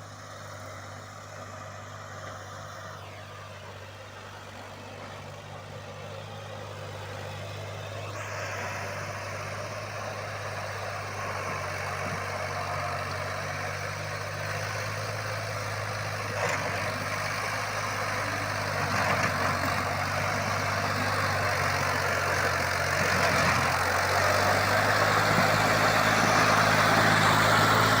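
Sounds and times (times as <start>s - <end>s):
heavy machinery engine humming: 0.0s - 28.0s.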